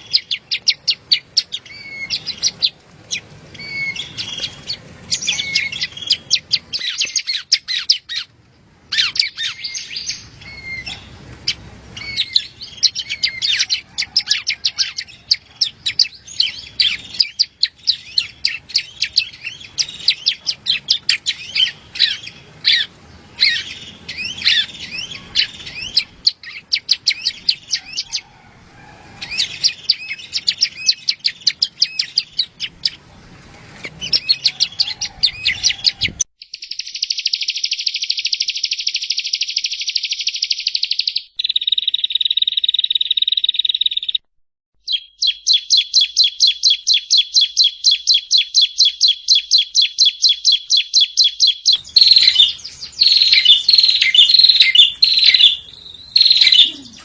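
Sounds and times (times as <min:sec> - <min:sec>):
bird song with chirps and trills: 0:00.0 - 0:28.4, 0:29.1 - 0:57.0.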